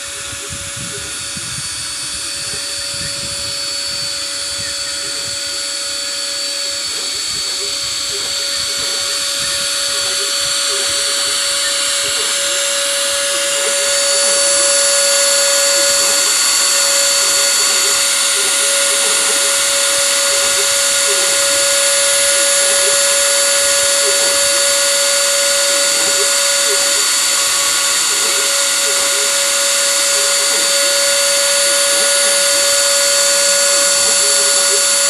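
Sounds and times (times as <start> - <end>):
hiss: 0.0 - 35.0
spindle motor whine: 0.0 - 35.0.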